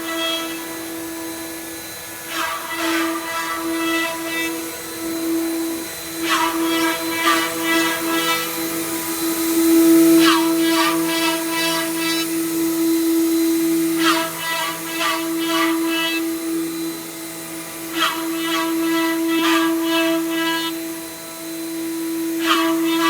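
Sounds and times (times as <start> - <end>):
rasping cutting noise: 0.0 - 23.0
router spindle whine: 0.0 - 23.0.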